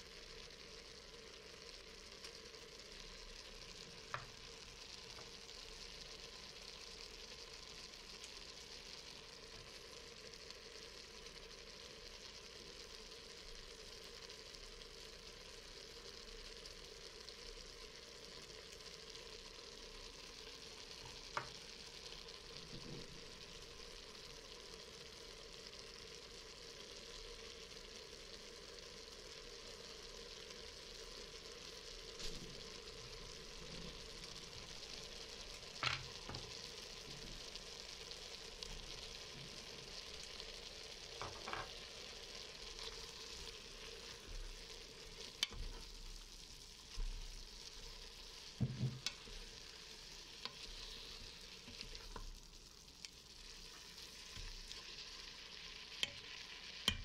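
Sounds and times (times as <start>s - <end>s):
vegetables sizzling in a pot: 0.0s - 57.0s.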